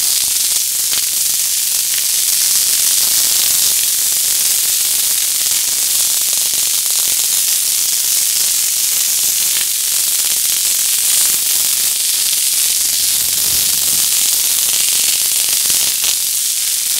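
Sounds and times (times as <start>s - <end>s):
fireworks hissing: 0.0s - 16.9s.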